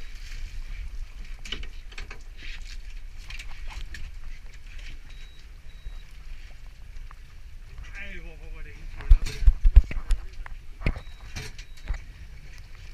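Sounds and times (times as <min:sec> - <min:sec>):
wind and sea rumble: 0:00.0 - 0:12.9.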